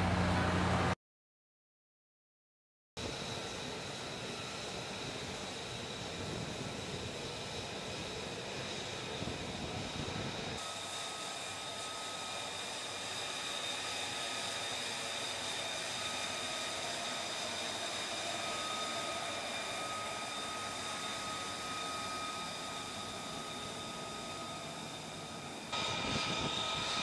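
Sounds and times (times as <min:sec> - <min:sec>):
jet engine hiss and whine: 0:03.0 - 0:27.0.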